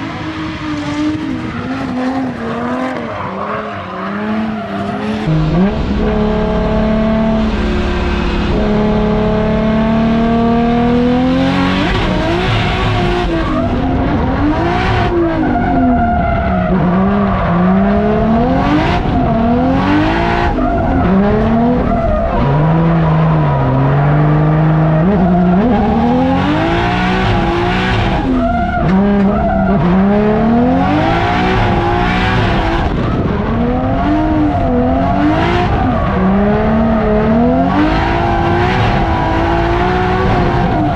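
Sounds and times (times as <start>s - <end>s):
car engine revving: 0.0s - 40.9s
tyres skidding and squealing: 0.0s - 40.9s.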